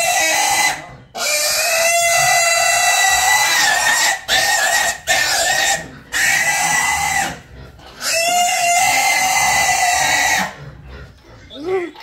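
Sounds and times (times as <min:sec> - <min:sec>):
wild boar squealing: 0:00.0 - 0:12.0.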